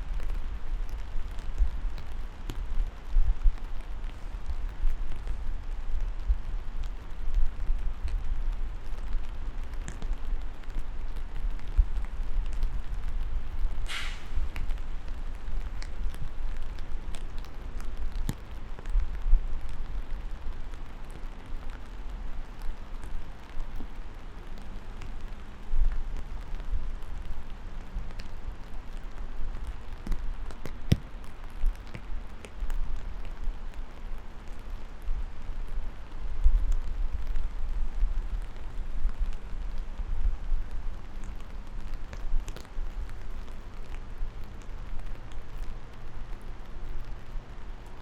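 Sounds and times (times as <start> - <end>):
low uneven rumble: 0.0 - 47.9
steady rain falling: 0.0 - 48.0.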